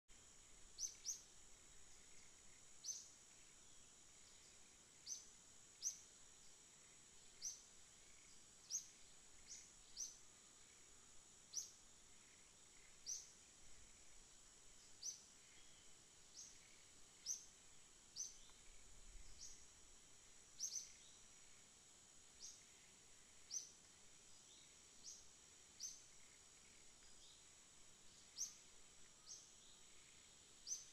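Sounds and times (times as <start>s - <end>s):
high-pitched insect drone: 0.2s - 30.9s
bird chirping: 0.6s - 6.1s, 7.2s - 19.7s, 20.5s - 21.3s, 22.4s - 30.9s.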